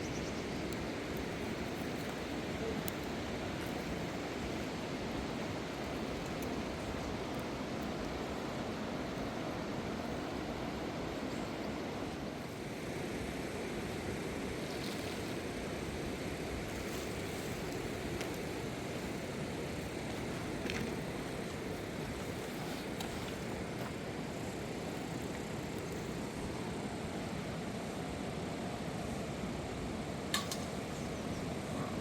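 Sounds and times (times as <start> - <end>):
river water rushing: 0.5 - 30.0.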